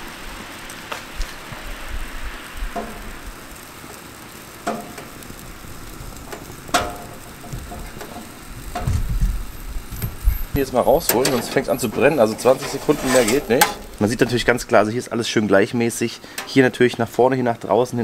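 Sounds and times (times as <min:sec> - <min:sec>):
gas burners hissing: 0:00.0 - 0:18.0
sharp crackles: 0:00.0 - 0:18.0.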